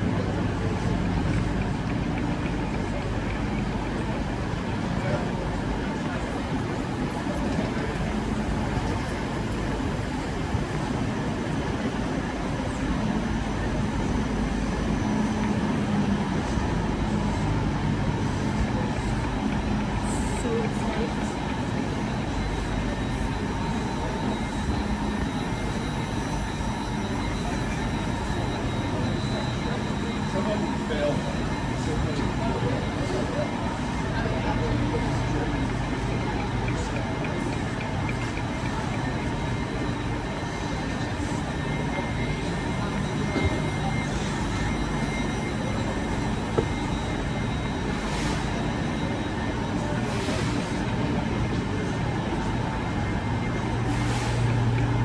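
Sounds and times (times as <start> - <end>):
faint high whine: 0.0 - 55.0
train rumble and hiss: 0.0 - 55.0.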